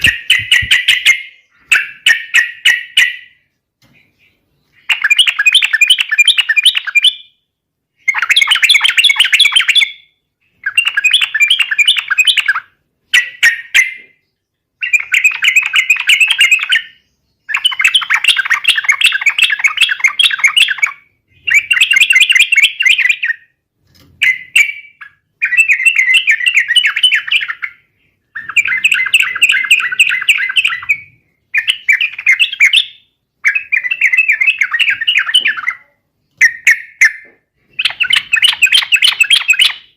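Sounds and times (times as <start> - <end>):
bulbul chattering song: 0.0 - 23.6, 24.2 - 39.9.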